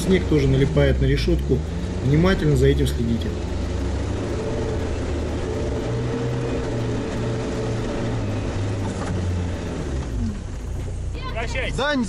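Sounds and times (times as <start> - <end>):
all-terrain vehicle engine running: 0.0 - 12.0.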